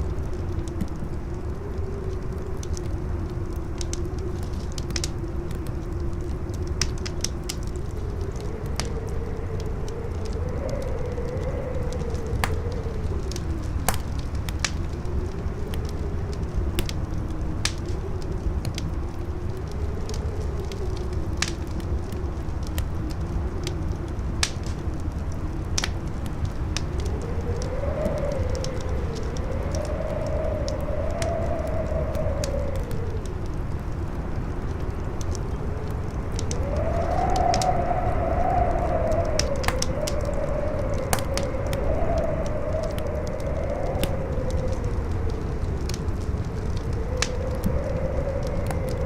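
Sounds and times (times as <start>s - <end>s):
campfire crackling and popping: 0.0s - 49.0s
howling wind: 0.0s - 49.0s.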